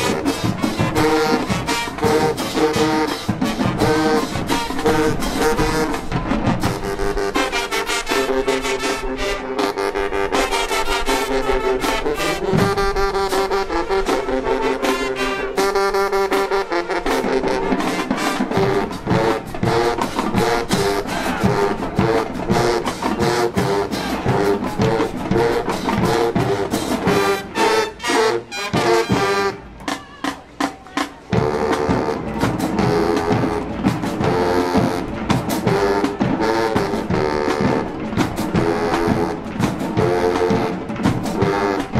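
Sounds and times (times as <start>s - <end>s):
drums: 0.0s - 41.9s
marching band playing: 0.0s - 41.9s.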